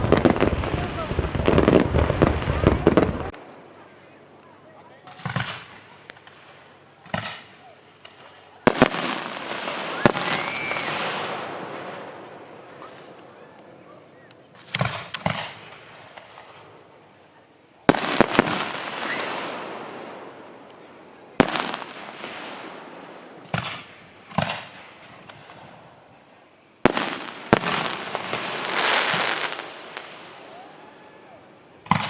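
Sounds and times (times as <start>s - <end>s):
firework bangs: 0.0s - 3.8s, 5.0s - 16.9s, 17.8s - 26.1s, 26.8s - 32.0s
firework crackling and hissing: 0.0s - 17.2s, 17.8s - 32.0s.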